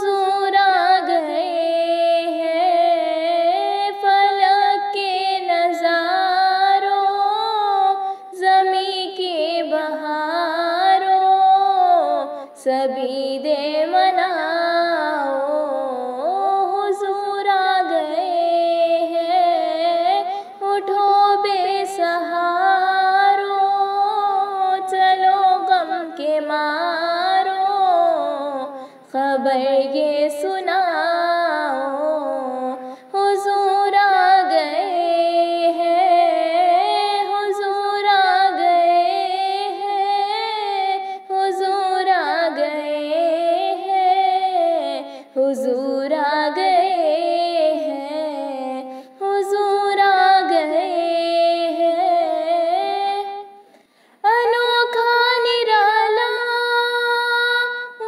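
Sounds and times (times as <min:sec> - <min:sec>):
woman singing devotional song: 0:00.0 - 0:58.0.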